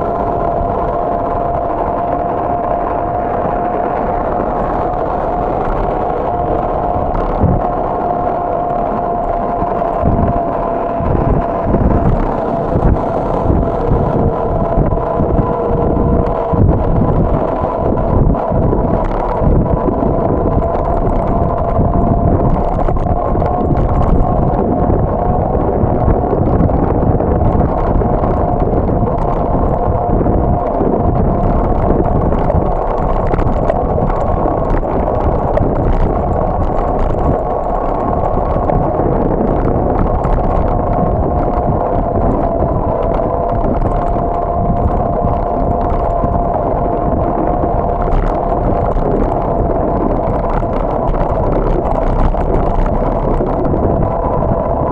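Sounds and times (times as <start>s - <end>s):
bicycle road noise: 0.0s - 54.9s
rushing wind: 0.0s - 54.9s
steady high whine: 0.0s - 54.9s.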